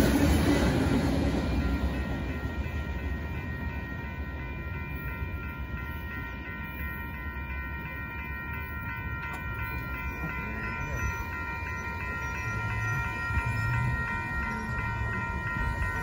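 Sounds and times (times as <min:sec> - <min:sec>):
freight train cars rumbling: 0:00.0 - 0:16.0
railroad crossing bell ringing: 0:00.0 - 0:16.0.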